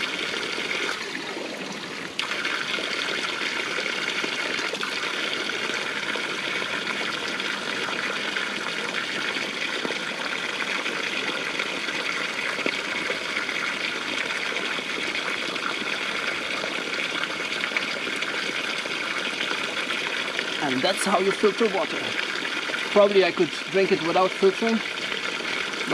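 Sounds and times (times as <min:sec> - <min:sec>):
water pouring and splashing: 0:00.0 - 0:25.9.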